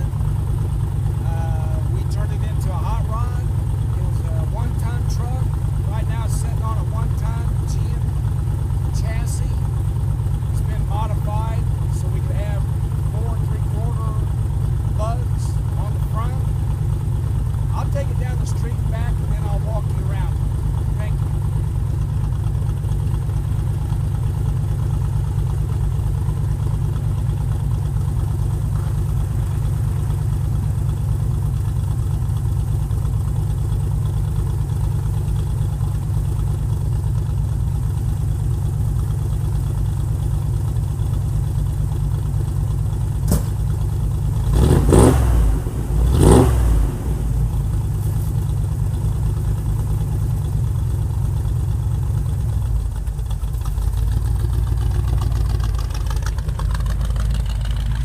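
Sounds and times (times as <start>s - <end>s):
engine throttle blips: 0.0s - 58.0s
truck engine idling: 0.0s - 58.0s.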